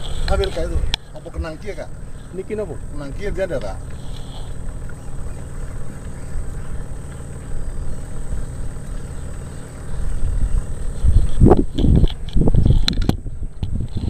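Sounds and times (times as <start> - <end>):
outboard engine droning: 0.0 - 14.0.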